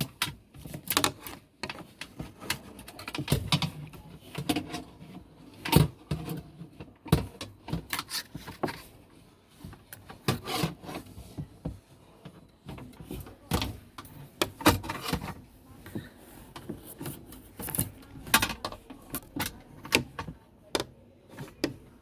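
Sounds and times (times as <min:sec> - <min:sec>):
wire scraping in plastic pipe: 0:00.6 - 0:11.5, 0:12.2 - 0:20.4.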